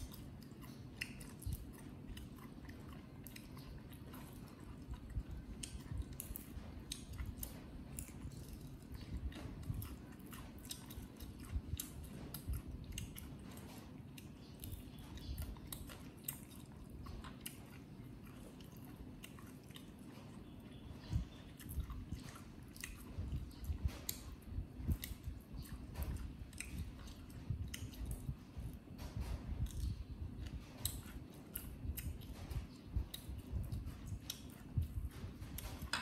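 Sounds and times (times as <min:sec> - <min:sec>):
food crunching while chewing: 0:00.0 - 0:28.9.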